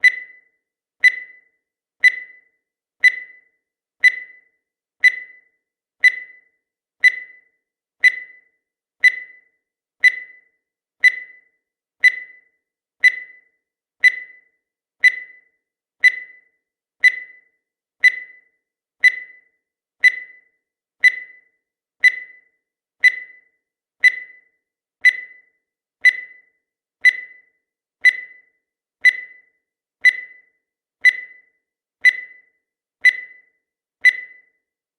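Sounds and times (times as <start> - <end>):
electronic timer ticks: 0.0 - 34.8.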